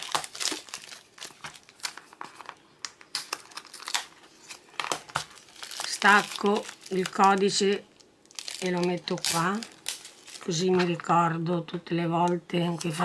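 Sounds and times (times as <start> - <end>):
plastic bags crinkling: 0.0 - 11.1.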